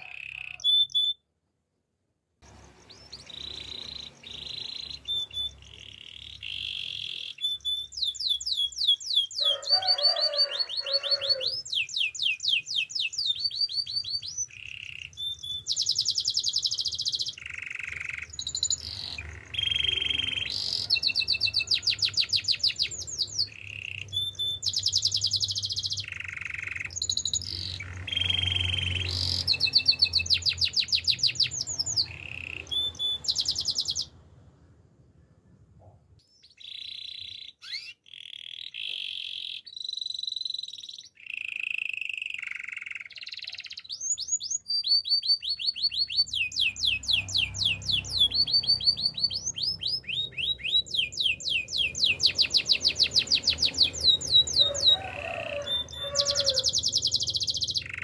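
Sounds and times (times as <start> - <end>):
canary singing trills: 0.0 - 1.3, 2.4 - 34.3, 35.8 - 58.0.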